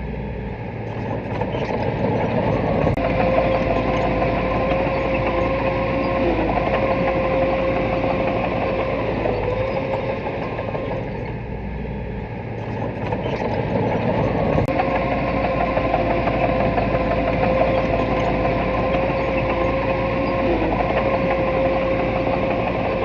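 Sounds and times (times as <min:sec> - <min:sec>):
diesel engine with high whine: 0:00.0 - 0:23.0.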